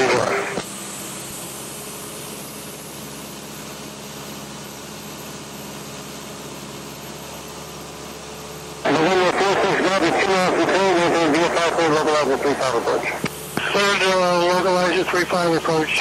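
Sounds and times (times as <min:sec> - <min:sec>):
aircraft engine drone in cabin: 0:00.0 - 0:16.0.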